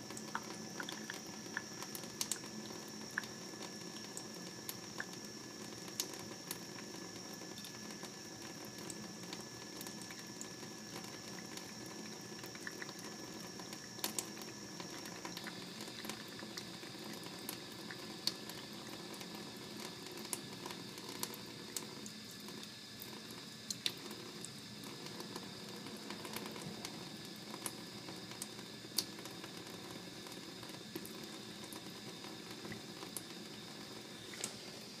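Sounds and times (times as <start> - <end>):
small ticks and splashes: 0.0 - 34.6
tap water running into steel sink: 0.0 - 35.0.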